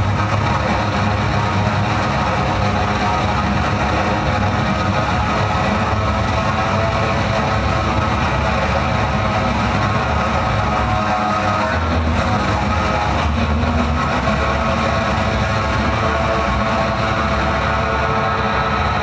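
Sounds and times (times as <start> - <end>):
electronic drone music: 0.0 - 19.0.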